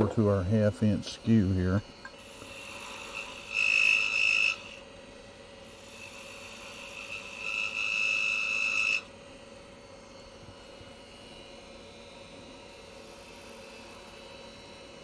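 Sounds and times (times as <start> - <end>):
chisel whining on lathe: 0.0 - 15.0
faint lathe hum: 0.0 - 15.0.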